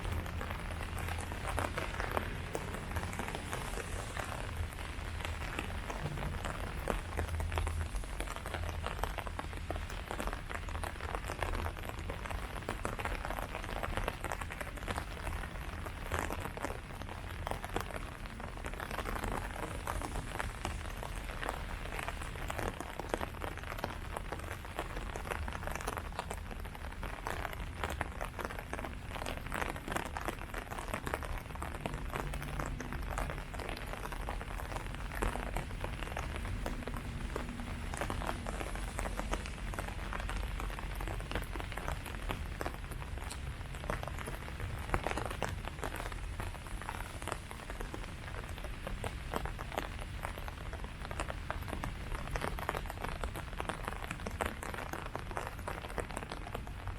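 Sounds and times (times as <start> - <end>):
rain pattering on leaves: 0.0 - 56.9.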